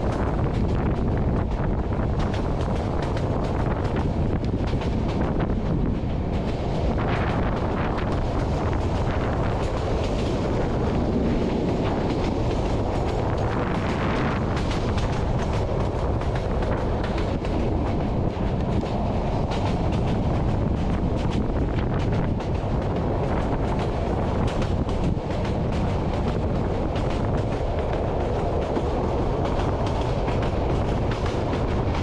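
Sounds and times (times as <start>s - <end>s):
train wheels rumbling on rails: 0.0s - 32.0s
wind on microphone: 0.0s - 32.0s.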